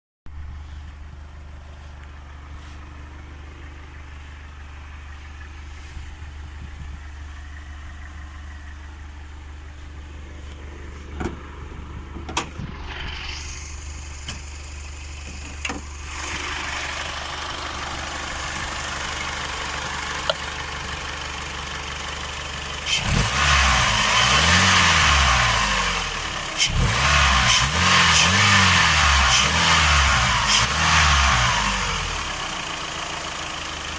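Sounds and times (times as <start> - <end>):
car engine idling and revving: 0.3 - 33.9.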